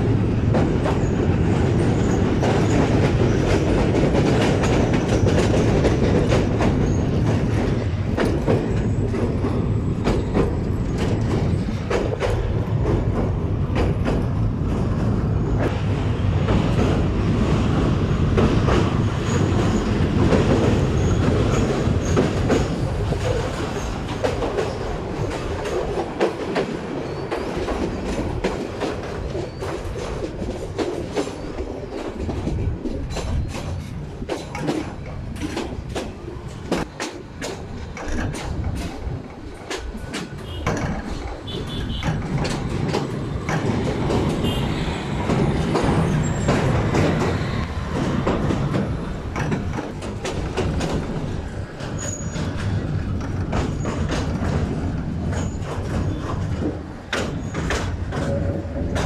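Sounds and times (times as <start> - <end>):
train rumble and rushing air: 0.0 - 59.0
wheels clacking over rail joints: 0.0 - 59.0.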